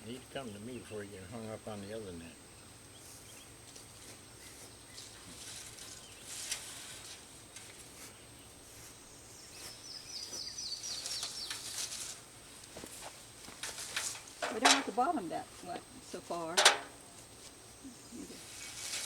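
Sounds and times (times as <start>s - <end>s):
songbird singing: 0.0s - 18.7s
faint rustling and crackling: 0.0s - 19.0s.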